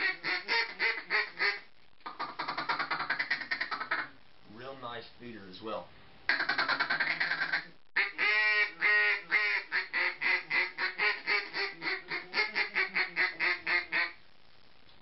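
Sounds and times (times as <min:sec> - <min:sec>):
duck call quacking: 0:00.0 - 0:04.2, 0:06.3 - 0:14.2.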